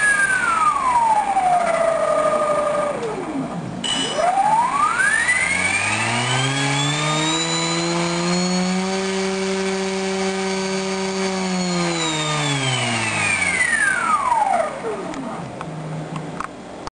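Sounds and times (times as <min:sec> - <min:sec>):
electric motor spinning propeller: 0:00.0 - 0:16.1.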